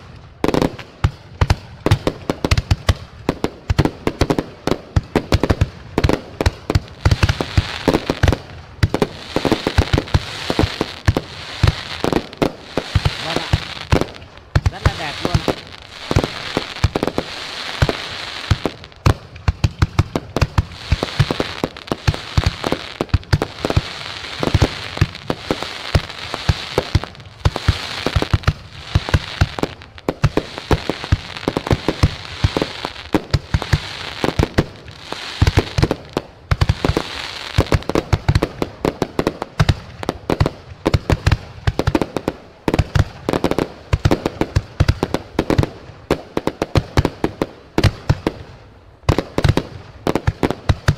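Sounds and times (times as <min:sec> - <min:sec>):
crackling hiss: 0:00.0 - 0:50.9
fireworks bangs and crackles: 0:00.0 - 0:50.9.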